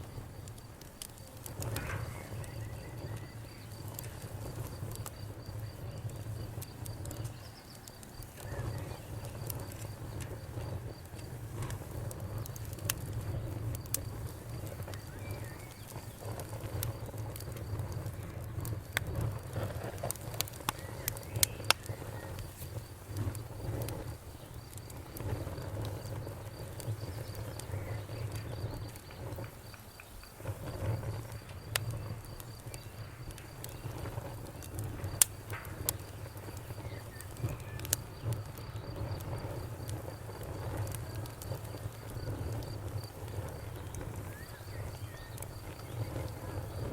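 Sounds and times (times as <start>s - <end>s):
fire rumbling: 0.0s - 46.9s
wood fire crackling and popping: 0.0s - 46.9s.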